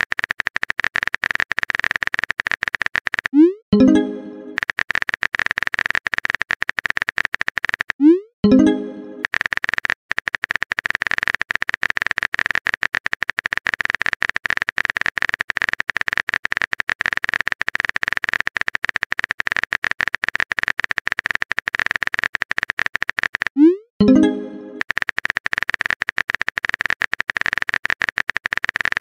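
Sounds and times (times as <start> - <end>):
rapid keyboard tap clicks: 0.0 - 3.4, 4.6 - 8.0, 9.2 - 23.6, 24.8 - 29.0.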